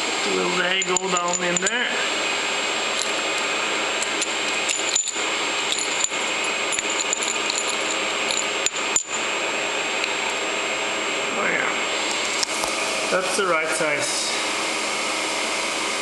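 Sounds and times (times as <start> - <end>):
steady background whir: 0.0 - 16.0.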